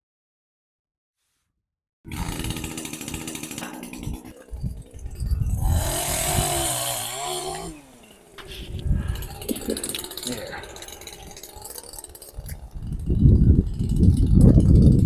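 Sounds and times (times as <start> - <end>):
chainsaw cutting wood: 2.1 - 15.0.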